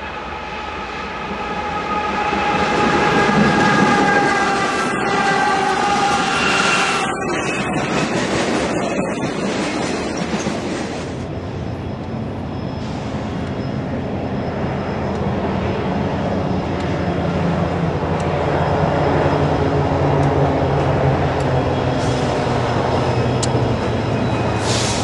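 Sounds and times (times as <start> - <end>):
diesel locomotive engines droning: 0.0 - 25.0.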